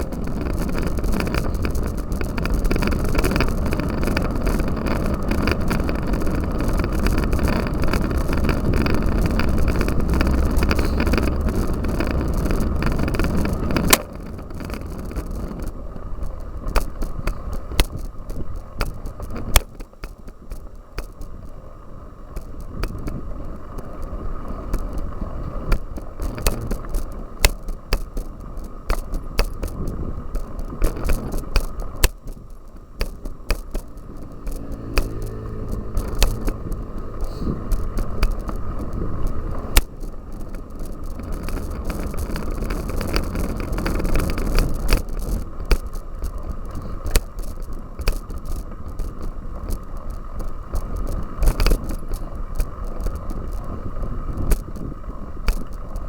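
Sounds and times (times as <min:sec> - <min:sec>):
low rumble: 0:00.0 - 0:19.3, 0:22.6 - 0:56.0
bicycle chain and frame rattling: 0:00.0 - 0:56.0.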